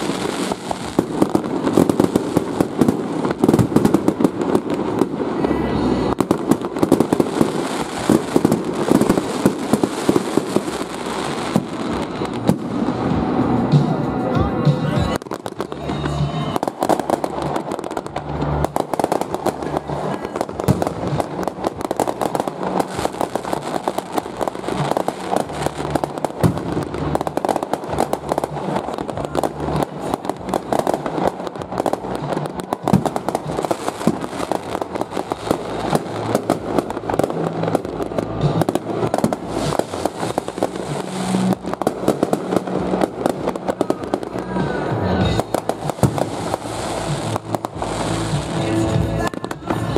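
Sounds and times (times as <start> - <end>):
fireworks crackling pops and bangs: 0.0 - 49.9.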